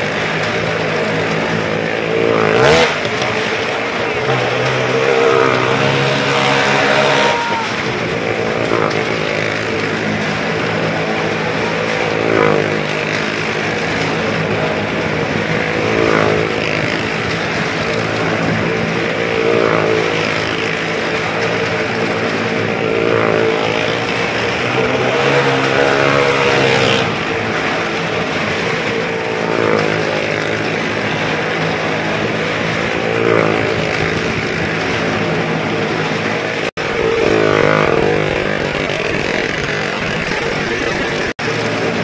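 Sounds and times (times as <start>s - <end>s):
car engines running hard: 0.0s - 42.0s
motorcycle engines running hard: 0.0s - 42.0s.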